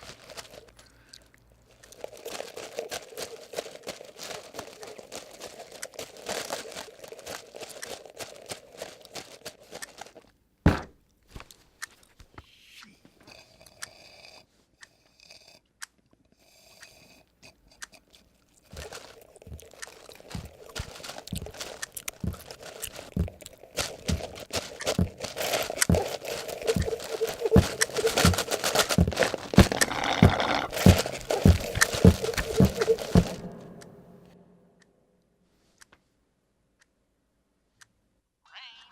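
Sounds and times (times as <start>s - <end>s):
crunching and chewing noises: 0.0s - 10.4s, 11.1s - 34.0s.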